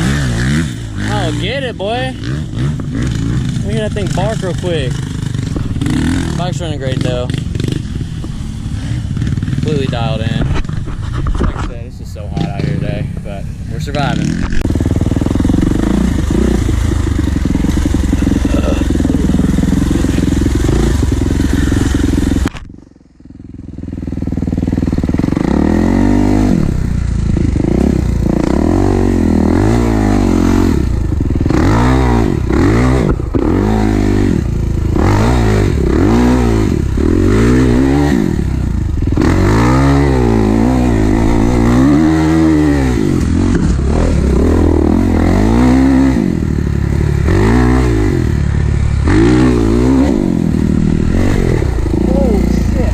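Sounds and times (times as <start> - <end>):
dirt bike engine revving: 0.0 - 11.2, 12.1 - 52.9.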